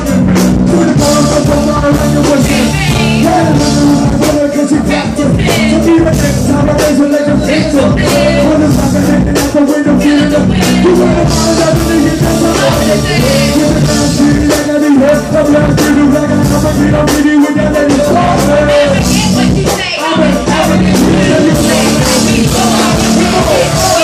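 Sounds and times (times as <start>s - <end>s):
bass-heavy beat: 0.0s - 24.0s.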